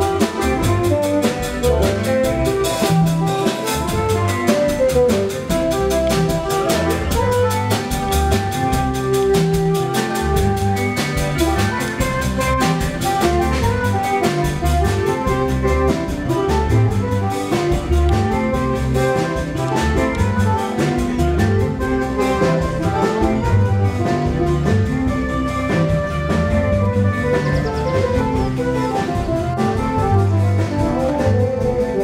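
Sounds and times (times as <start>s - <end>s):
bass line: 0.0s - 32.0s
dance band playing: 0.0s - 32.0s
drum kit beat: 0.0s - 32.0s.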